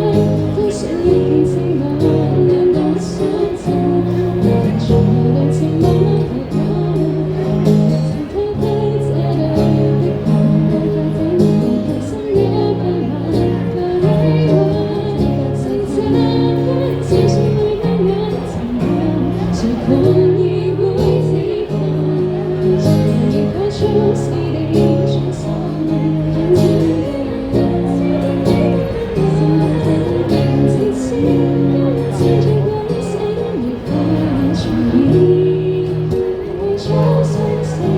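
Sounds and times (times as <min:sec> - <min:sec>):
person singing: 0:00.0 - 0:37.9.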